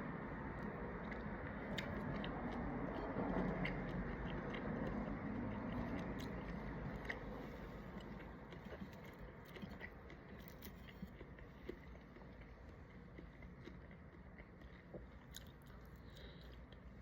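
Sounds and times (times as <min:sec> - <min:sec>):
person chewing shrimp: 0:00.4 - 0:17.0.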